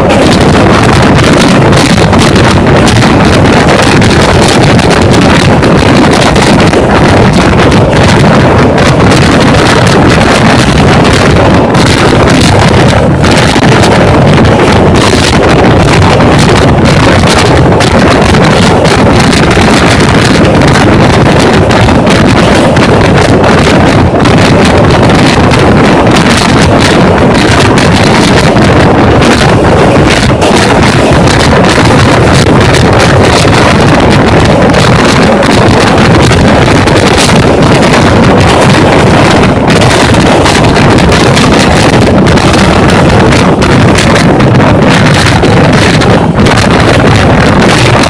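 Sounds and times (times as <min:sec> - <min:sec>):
train rumbling at high speed: 0:00.0 - 0:48.0
wind buffeting microphone: 0:00.0 - 0:48.0.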